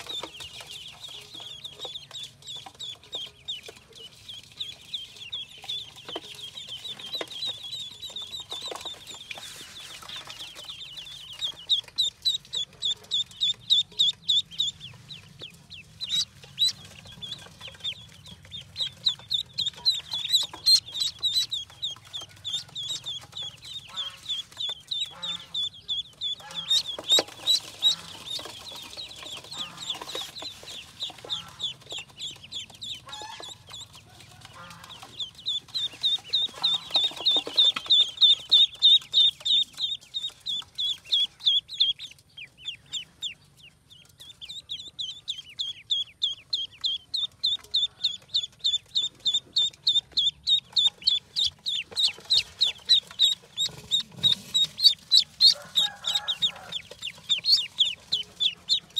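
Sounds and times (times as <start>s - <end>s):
ducklings peeping: 0.0s - 58.9s.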